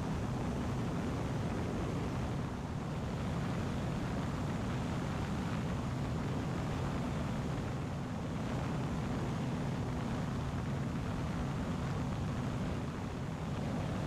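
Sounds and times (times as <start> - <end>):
aircraft engine and propeller drone: 0.0 - 14.0.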